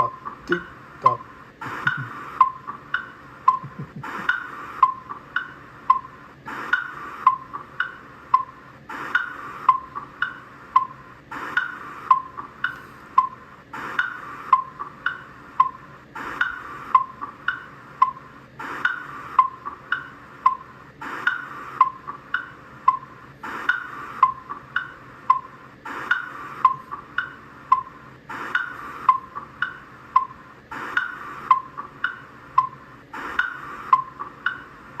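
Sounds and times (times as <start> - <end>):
cartoon clock ticking: 0.0 - 35.0.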